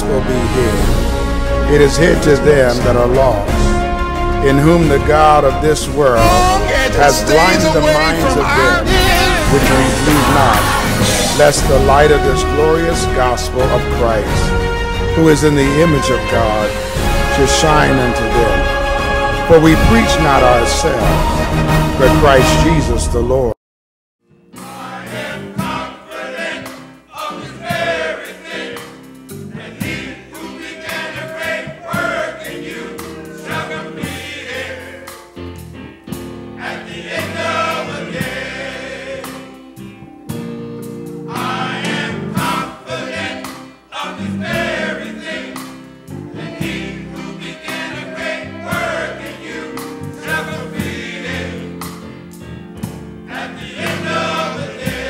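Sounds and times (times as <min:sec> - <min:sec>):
men's choir singing: 0:00.0 - 0:22.8, 0:24.6 - 0:35.4, 0:36.6 - 0:39.7, 0:41.2 - 0:52.2, 0:53.2 - 0:55.0.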